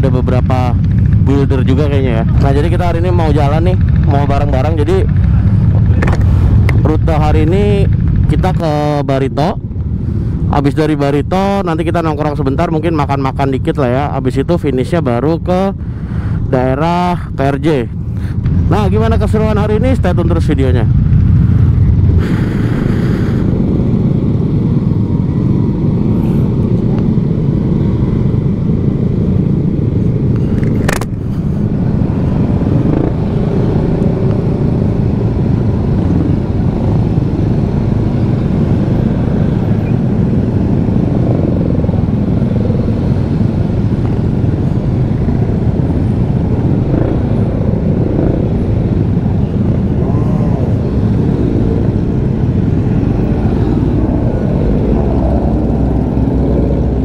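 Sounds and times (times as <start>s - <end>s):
scooter engine and road noise: 0.0s - 12.4s, 14.8s - 57.0s
wind rumble on microphone: 0.0s - 57.0s.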